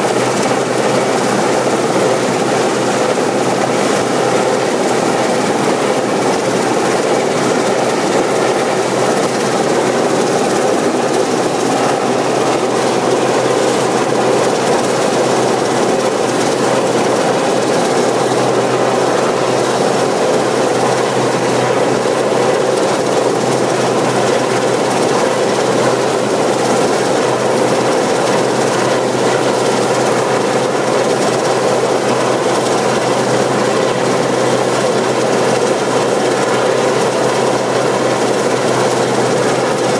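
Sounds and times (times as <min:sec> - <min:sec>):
helicopter hovering overhead: 0:00.0 - 0:39.9.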